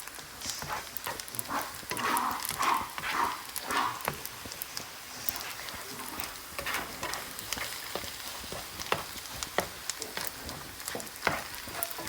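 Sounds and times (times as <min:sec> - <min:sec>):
eggs sizzling in a hot pan: 0:00.0 - 0:12.0.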